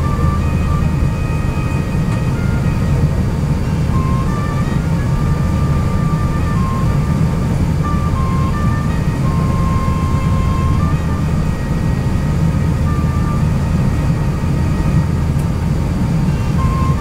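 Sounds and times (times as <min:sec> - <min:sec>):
aircraft cabin low rumble: 0:00.0 - 0:17.0
faint cabin music: 0:00.0 - 0:17.0.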